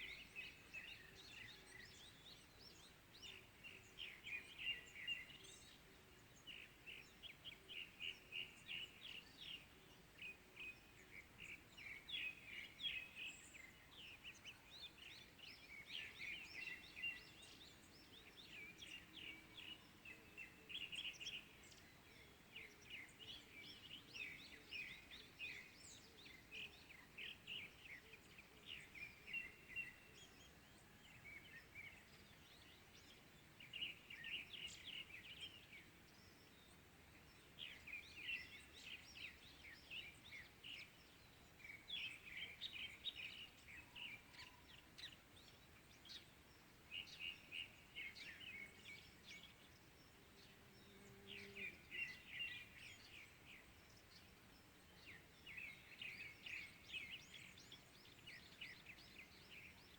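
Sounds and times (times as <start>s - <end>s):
faint outdoor background noise: 0.0s - 59.9s
small birds chirping and trilling: 0.0s - 59.9s.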